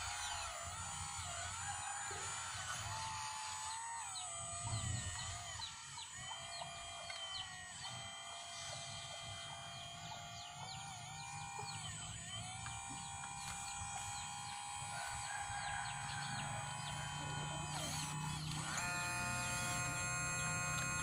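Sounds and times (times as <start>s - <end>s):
hydraulic pump whining: 0.0s - 21.0s.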